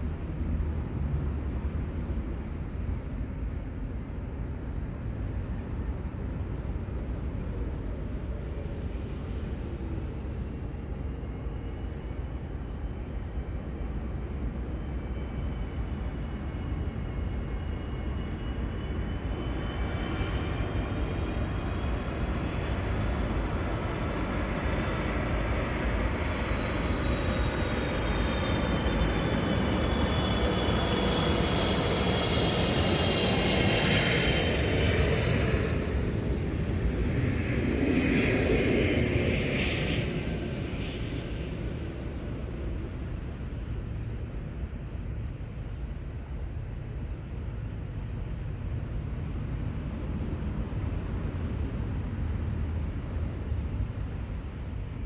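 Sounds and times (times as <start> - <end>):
airplane flying low overhead: 0.0 - 55.0.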